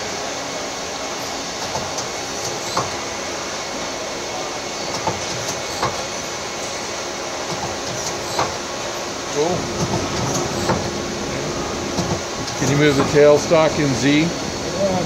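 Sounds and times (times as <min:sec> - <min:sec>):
lathe machine whir: 0:00.0 - 0:15.0.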